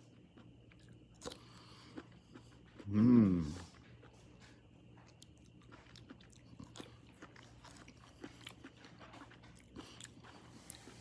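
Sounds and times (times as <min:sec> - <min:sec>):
faint chewing of fruit: 0:00.0 - 0:11.0.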